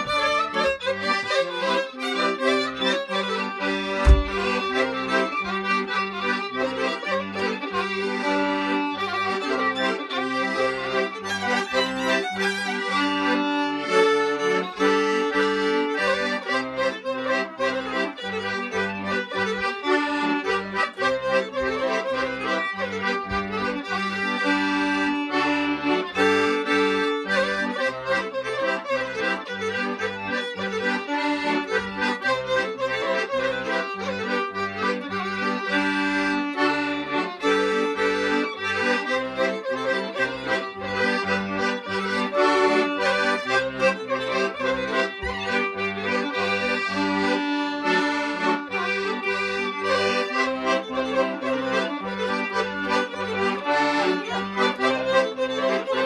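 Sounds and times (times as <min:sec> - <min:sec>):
piano accordion: 0:00.0 - 0:56.0
violin: 0:00.0 - 0:56.0.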